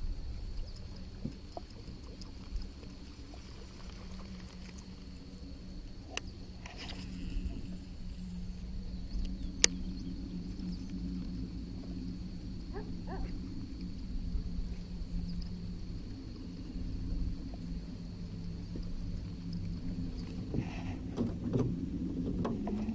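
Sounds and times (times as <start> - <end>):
high-pitched whine: 0.0 - 21.1
low wind rumble: 0.0 - 22.9
steady low hum: 0.0 - 22.9.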